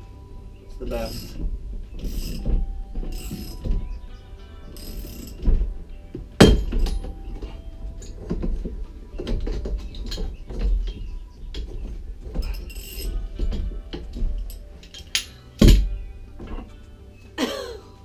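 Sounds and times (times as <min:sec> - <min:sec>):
metal clinks and knocks: 0:00.7 - 0:16.9.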